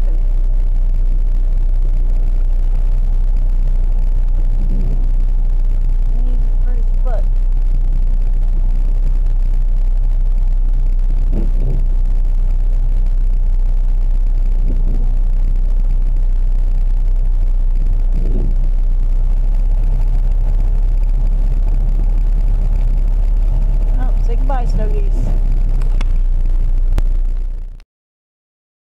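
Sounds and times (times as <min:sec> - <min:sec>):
car driving rumble: 0:00.0 - 0:27.8.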